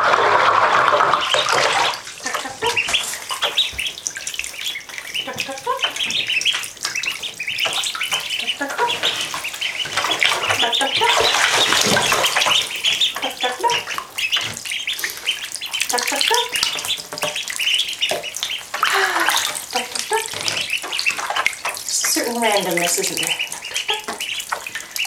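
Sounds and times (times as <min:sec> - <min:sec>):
ducklings peeping: 0:00.0 - 0:25.0
splashing in shallow water: 0:00.0 - 0:25.0.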